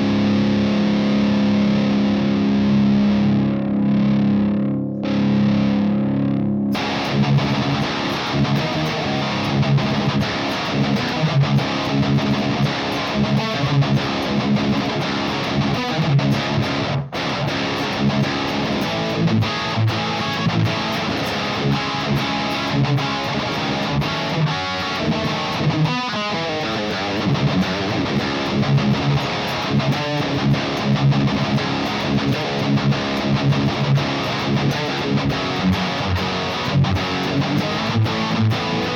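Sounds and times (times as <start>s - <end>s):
distorted electric guitar riffing: 0.0s - 38.9s
guitar chord ringing: 0.0s - 38.9s.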